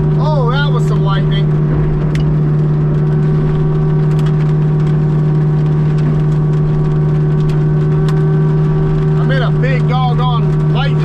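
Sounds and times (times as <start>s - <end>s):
rain ticking on machine: 0.0s - 11.0s.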